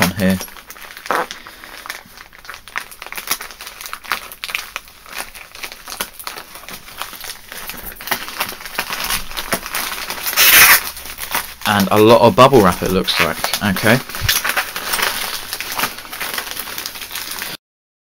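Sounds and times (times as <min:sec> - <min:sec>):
plastic bag crinkling: 0:00.0 - 0:17.6.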